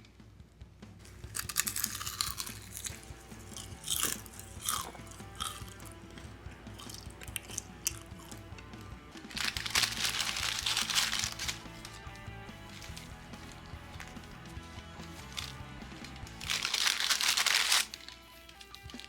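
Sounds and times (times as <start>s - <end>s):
soft background music: 0.0s - 19.0s
crunching food: 1.0s - 19.0s.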